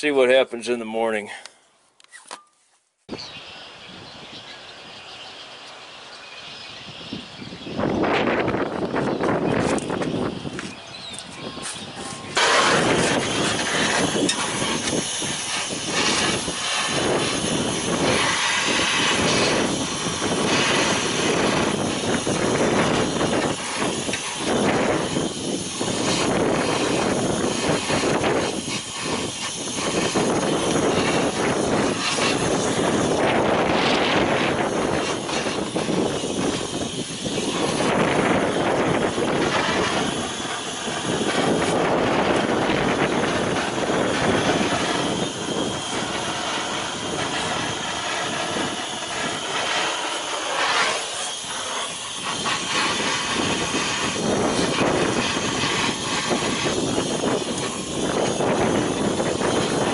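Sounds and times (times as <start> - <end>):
gas torch flame burning: 3.5 - 59.9.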